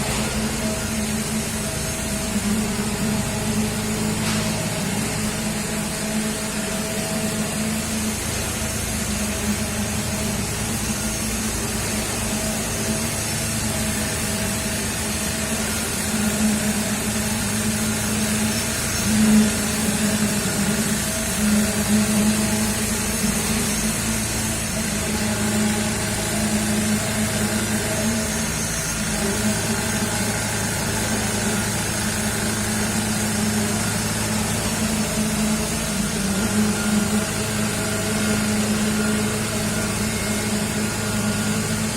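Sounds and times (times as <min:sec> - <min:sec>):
concrete pump truck humming: 0:00.0 - 0:41.9.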